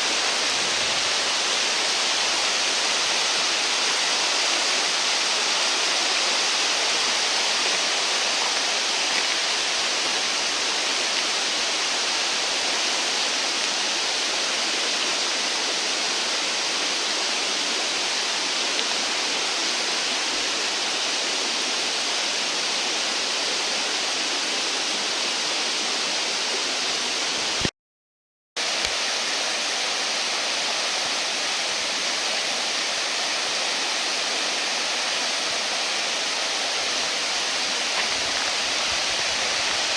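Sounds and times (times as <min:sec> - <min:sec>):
stream water rushing: 0:00.0 - 0:27.7, 0:28.6 - 0:39.9.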